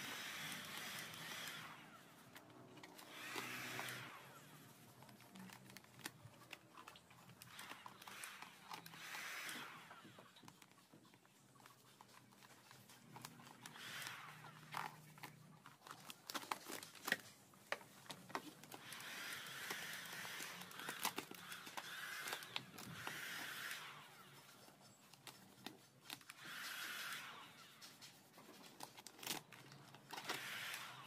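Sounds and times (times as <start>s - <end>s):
vinyl film crinkling and clicking: 2.1s - 27.0s, 27.6s - 31.0s.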